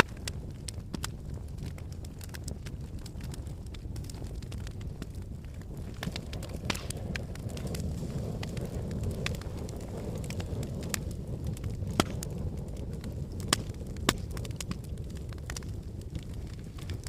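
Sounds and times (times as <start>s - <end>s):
fire crackling and popping: 0.0s - 17.0s
sharp snaps of burning wood: 0.0s - 17.0s.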